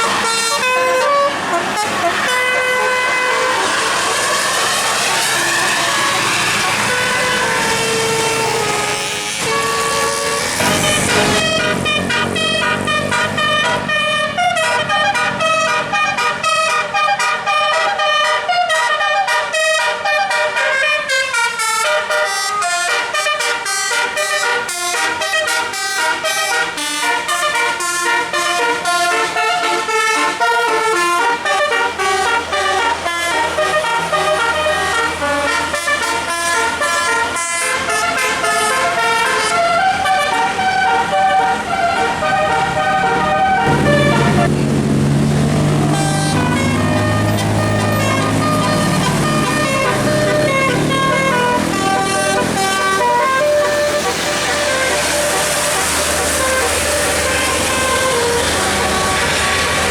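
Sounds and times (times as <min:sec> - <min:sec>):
musical air horn playing a tune: 0:00.0 - 0:44.9, 0:45.7 - 0:59.9.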